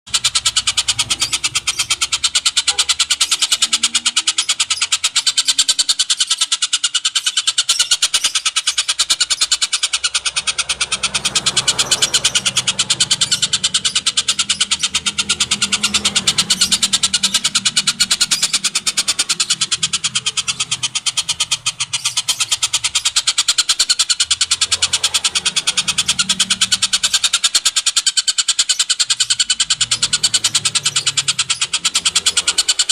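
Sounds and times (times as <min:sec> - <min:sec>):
bird rattling trill: 0:00.1 - 0:32.9.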